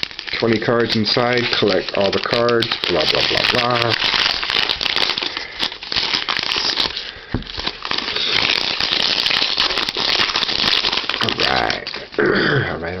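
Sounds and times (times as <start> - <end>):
wrapper tearing and crinkling: 0.0 - 12.4.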